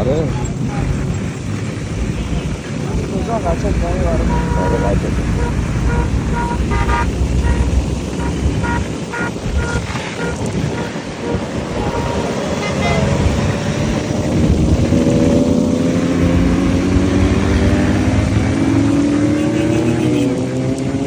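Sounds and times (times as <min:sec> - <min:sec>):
motorcycle engines running: 0:00.0 - 0:21.0
road noise: 0:00.0 - 0:21.0.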